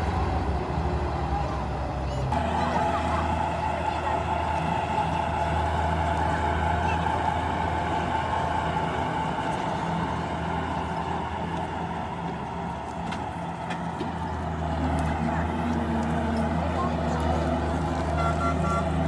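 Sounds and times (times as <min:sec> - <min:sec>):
diesel engine running steadily: 0:00.0 - 0:19.0.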